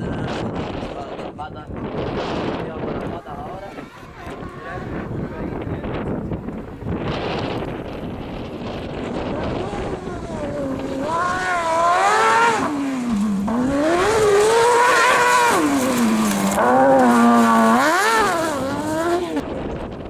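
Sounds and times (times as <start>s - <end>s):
rally car engine revving: 1.7s - 20.0s.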